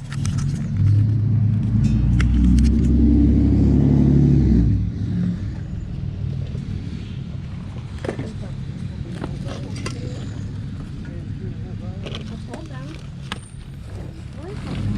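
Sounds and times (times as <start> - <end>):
vehicle engine rumble: 0.0 - 14.9.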